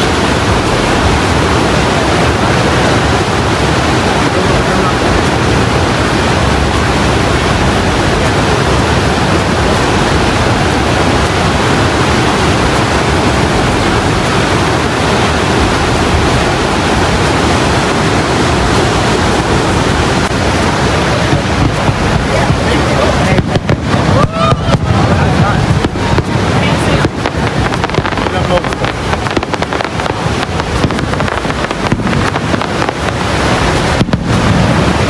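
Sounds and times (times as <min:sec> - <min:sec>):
river rapids rushing: 0:00.0 - 0:35.0.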